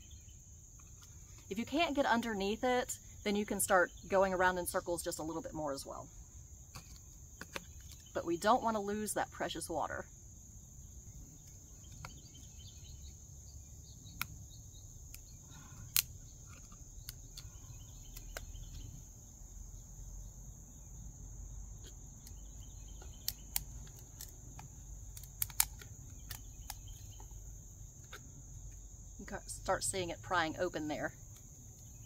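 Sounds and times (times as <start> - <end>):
insect chorus: 0.0 - 32.0.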